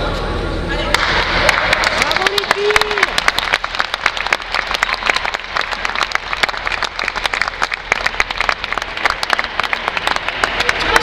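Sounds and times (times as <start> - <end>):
crowd applauding: 0.9 - 11.0.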